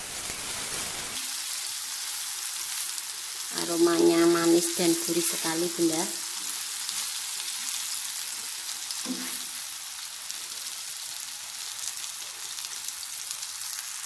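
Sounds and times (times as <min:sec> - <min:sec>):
bananas sizzling in a pan: 0:00.0 - 0:14.0.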